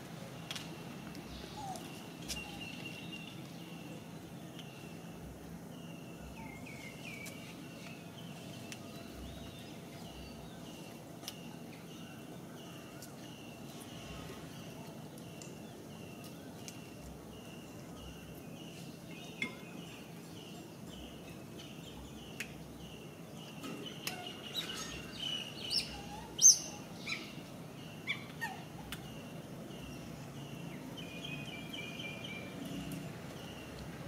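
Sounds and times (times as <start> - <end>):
bird chirping: 1.0 - 33.8.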